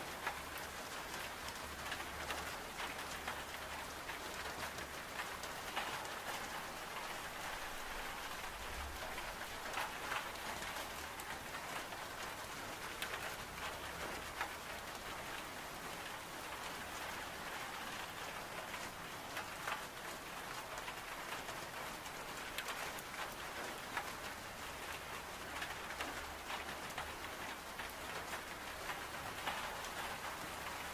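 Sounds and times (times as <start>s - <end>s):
rain on window glass: 0.0s - 30.9s.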